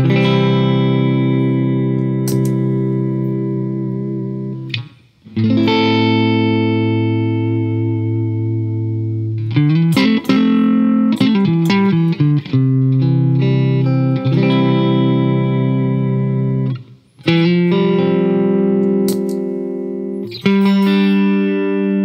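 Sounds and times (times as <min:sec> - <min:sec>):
electric guitar chords: 0:00.0 - 0:22.0
picked guitar notes: 0:00.0 - 0:22.0.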